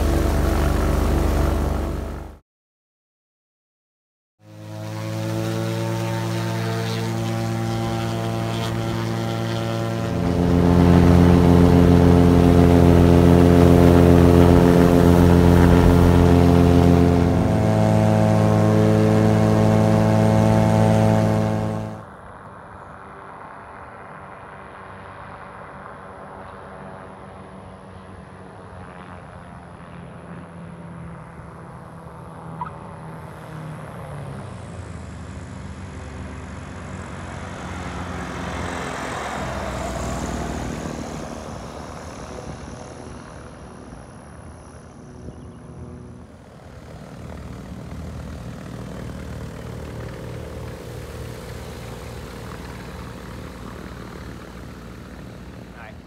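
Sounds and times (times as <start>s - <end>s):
propeller plane engine passing: 0.0s - 2.4s, 4.4s - 56.0s.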